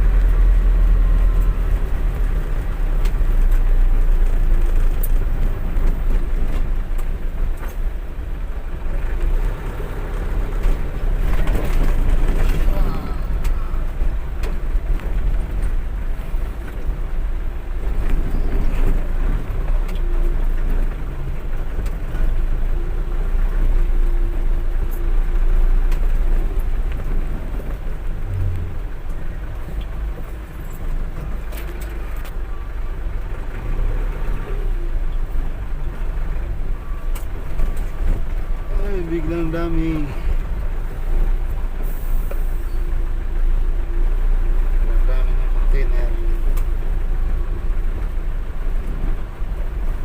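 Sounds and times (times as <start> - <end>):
truck engine running: 0.0 - 50.0.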